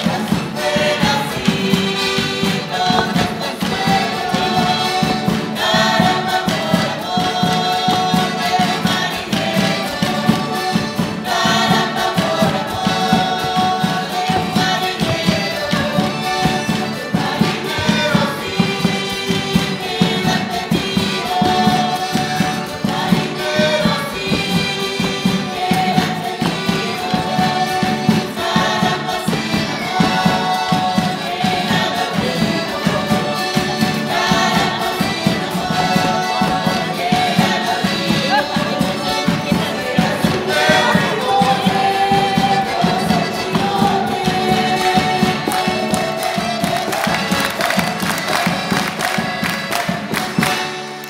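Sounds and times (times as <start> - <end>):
bass drum beating: 0.0 - 48.0
accordion: 0.0 - 51.0
strummed acoustic guitars: 0.0 - 51.0
voices singing together: 0.0 - 51.0.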